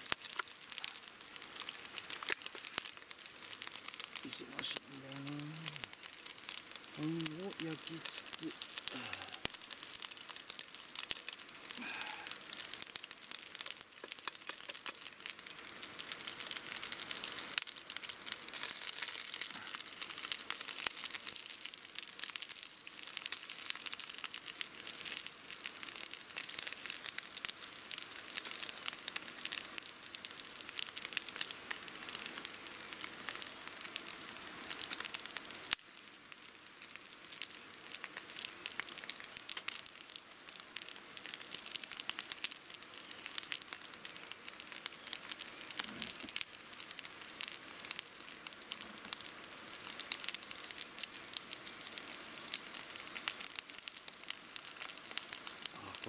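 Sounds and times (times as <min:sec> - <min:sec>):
ham and egg sizzling in pan: 0:00.0 - 0:56.0
wood fire crackling: 0:00.0 - 0:56.0.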